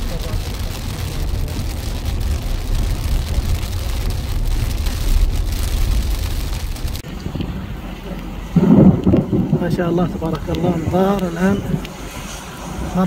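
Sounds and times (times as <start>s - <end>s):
car road and engine rumble: 0.0s - 13.0s
rain hissing on car: 0.0s - 13.0s.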